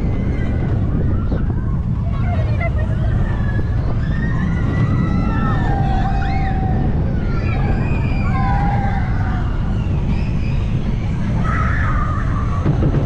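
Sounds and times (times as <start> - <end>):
roller coaster rumble: 0.0 - 13.0
wind on microphone: 0.0 - 13.0.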